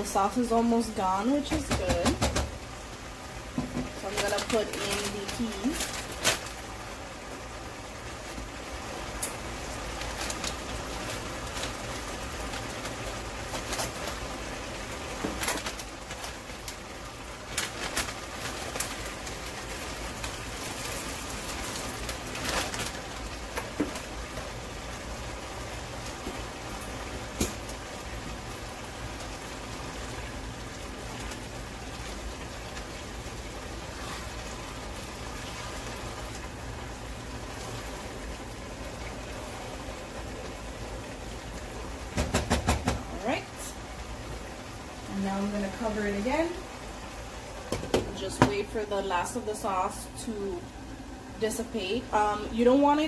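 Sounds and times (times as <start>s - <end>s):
meat filling bubbling in a pan: 0.0s - 53.0s.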